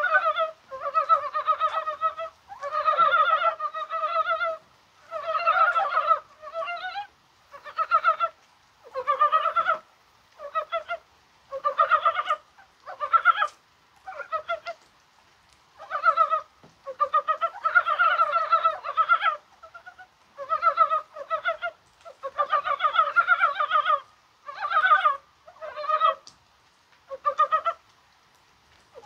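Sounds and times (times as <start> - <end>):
frogs calling in clucking trills: 0.0 - 14.9, 15.8 - 26.3, 27.1 - 27.9.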